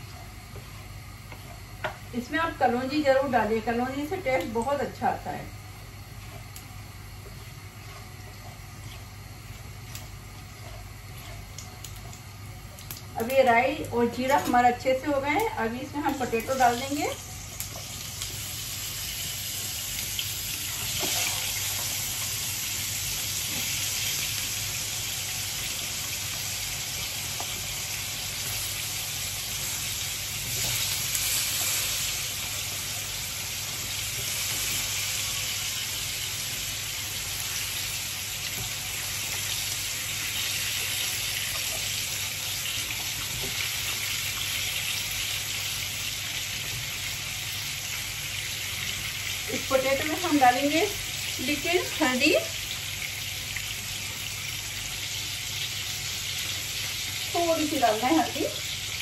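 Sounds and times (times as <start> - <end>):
potato slices sizzling in oil: 0.0 - 59.0.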